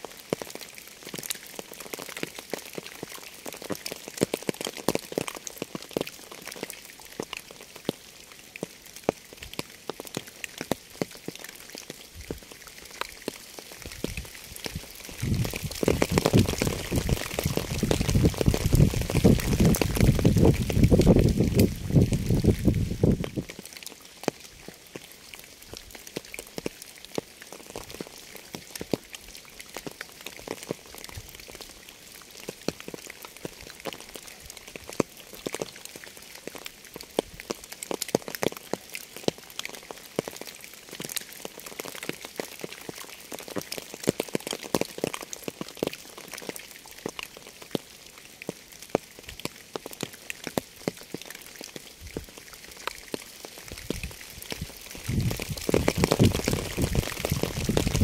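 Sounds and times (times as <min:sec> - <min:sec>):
raindrops ticking on surface: 0:00.0 - 0:58.0
steady rainfall: 0:00.0 - 0:58.0.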